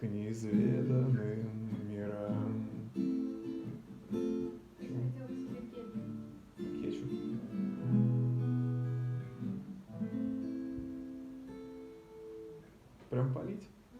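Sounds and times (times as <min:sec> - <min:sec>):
acoustic guitar chords ringing: 0:00.0 - 0:13.4.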